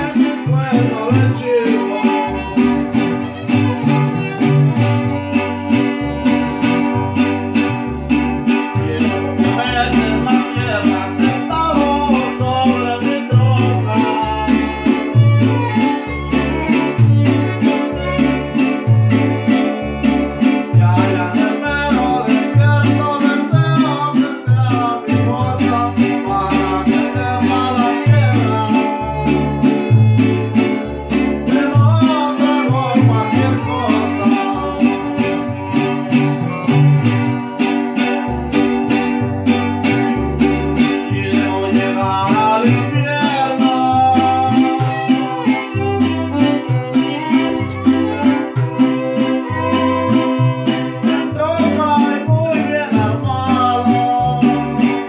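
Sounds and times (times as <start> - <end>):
plucked bass line: 0.0 - 55.0
strummed guitars: 0.0 - 55.0
violin melody: 0.0 - 55.0.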